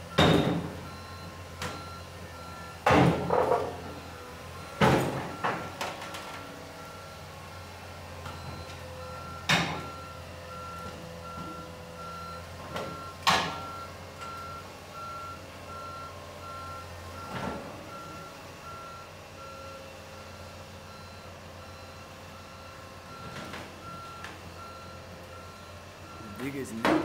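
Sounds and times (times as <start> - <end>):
diesel engine running: 0.0 - 27.0
excavator travel alarm beeping: 0.0 - 27.0.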